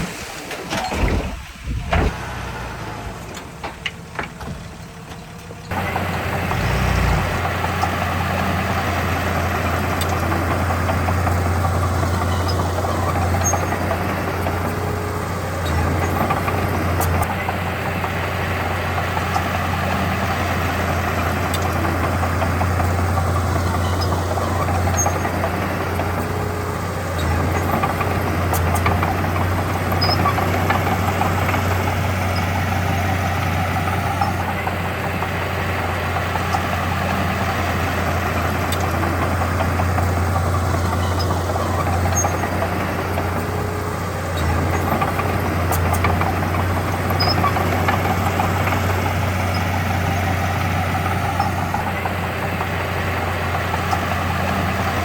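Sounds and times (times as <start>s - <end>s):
diesel engine deep drone: 0.0s - 55.0s.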